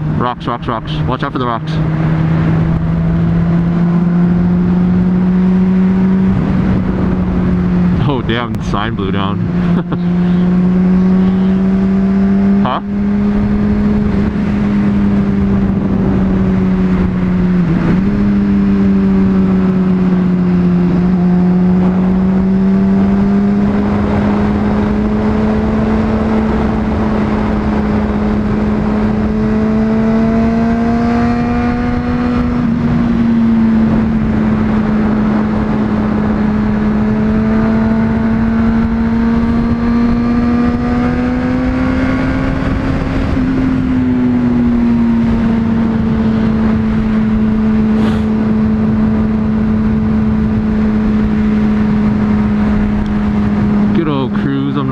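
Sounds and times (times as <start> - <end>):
wind rushing over microphone: 0.0 - 54.1
motorcycle engine cruising: 0.0 - 54.9.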